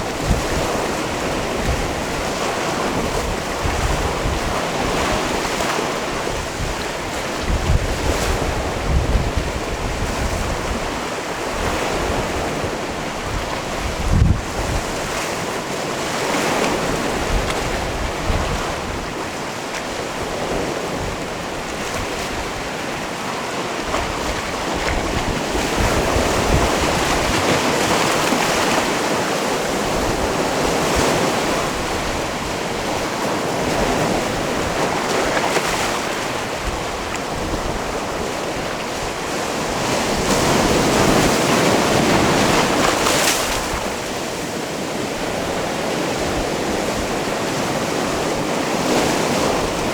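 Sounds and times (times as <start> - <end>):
sea waves washing onto rocks: 0.0 - 49.9
wind buffeting microphone: 0.0 - 49.9.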